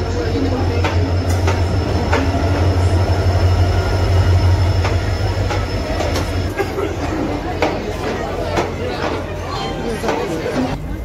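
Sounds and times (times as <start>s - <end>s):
train wheels clacking: 0.0s - 10.8s
low train rumble: 0.0s - 11.0s.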